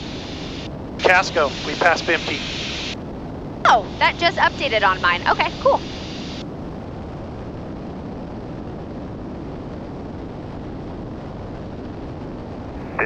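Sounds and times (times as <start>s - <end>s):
aircraft cabin engine drone: 0.0s - 10.2s, 10.8s - 13.0s.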